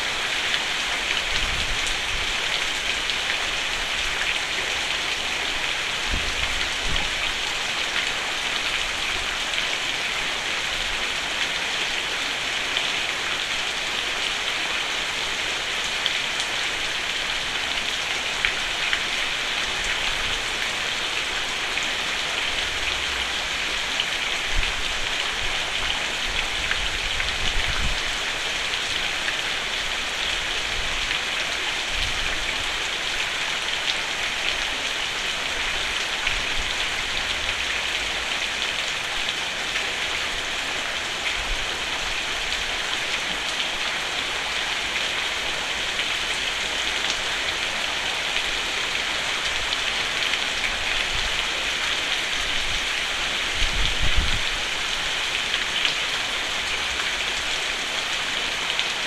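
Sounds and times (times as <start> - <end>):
rain pattering on a roof: 0.0 - 59.0.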